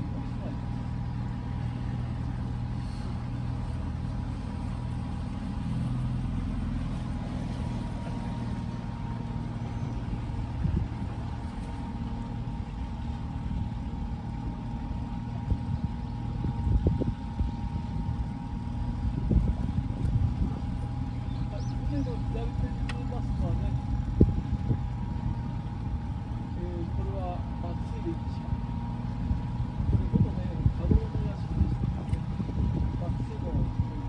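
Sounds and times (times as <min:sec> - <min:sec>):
outboard motor droning: 0:00.0 - 0:34.0.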